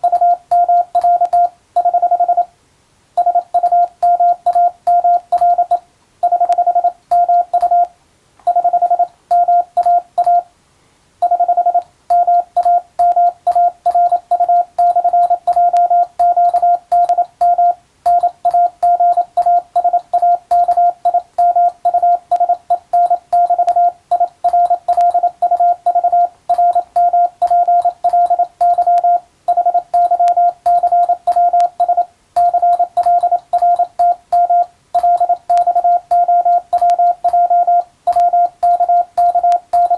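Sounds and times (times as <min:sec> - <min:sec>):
morse code beeps: 0:00.0 - 0:02.5, 0:03.2 - 0:07.9, 0:08.5 - 0:10.5, 0:11.2 - 0:39.9.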